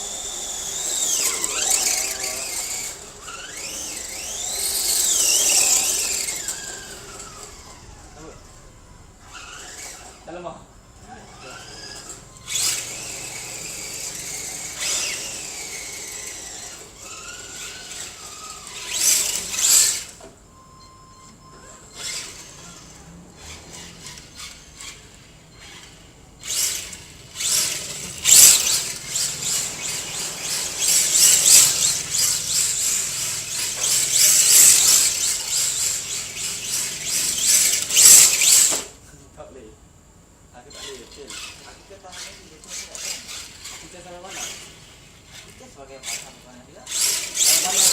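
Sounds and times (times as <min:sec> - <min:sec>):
toy car tyres squealing: 0:00.0 - 0:39.2, 0:40.6 - 0:47.9.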